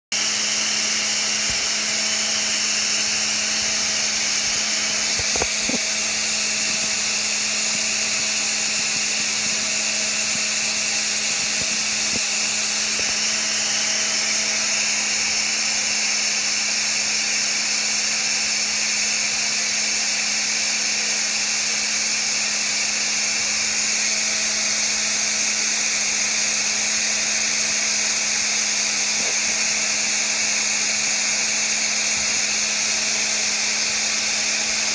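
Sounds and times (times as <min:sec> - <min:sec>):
electric motor humming: 0:00.2 - 0:34.9.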